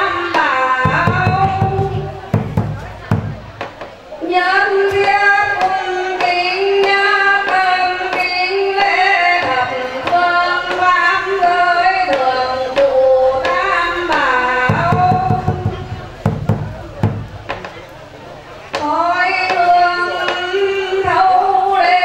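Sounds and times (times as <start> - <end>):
woman singing chant-like song: 0.0 - 3.2, 4.2 - 16.3, 18.8 - 22.0.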